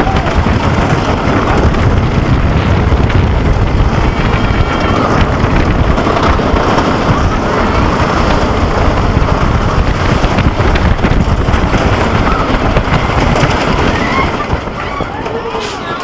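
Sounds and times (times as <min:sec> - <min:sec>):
roller coaster train rumbling on track: 0:00.0 - 0:16.0
wind rushing over microphone: 0:00.0 - 0:16.0.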